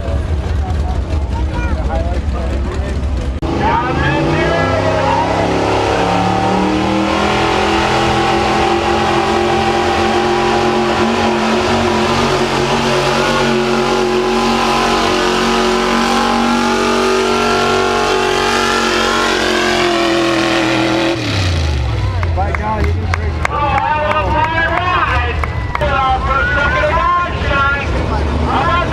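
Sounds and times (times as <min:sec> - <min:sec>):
truck engine at high revs: 0:00.0 - 0:28.9.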